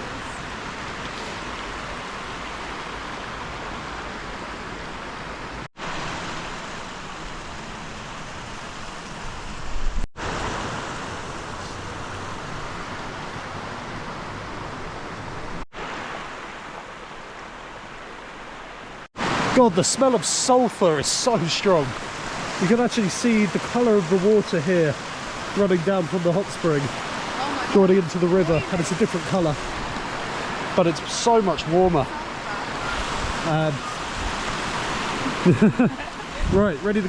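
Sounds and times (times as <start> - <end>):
river rushing over stones: 0.0 - 37.0.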